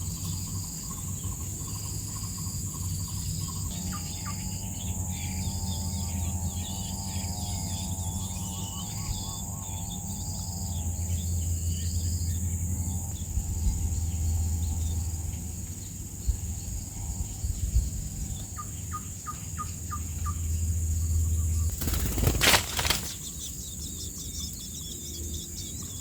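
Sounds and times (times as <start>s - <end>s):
insects droning: 0.0s - 26.0s
small birds chirping: 0.0s - 26.0s.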